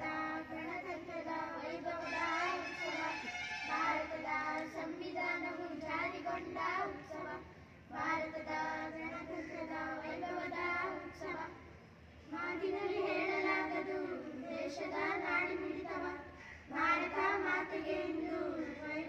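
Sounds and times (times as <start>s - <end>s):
children singing into a microphone: 0.0s - 11.6s, 12.3s - 19.0s.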